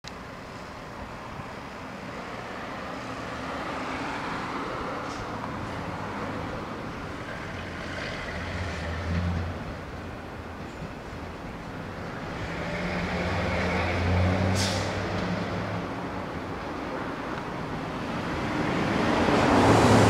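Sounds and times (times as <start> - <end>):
road traffic noise: 0.0 - 20.0
vehicle engine hum passing: 0.6 - 20.0.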